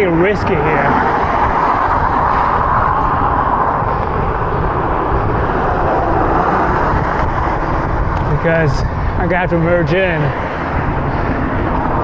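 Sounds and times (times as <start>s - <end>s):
road traffic noise: 0.0s - 12.0s
wind rushing over microphone: 0.0s - 12.0s.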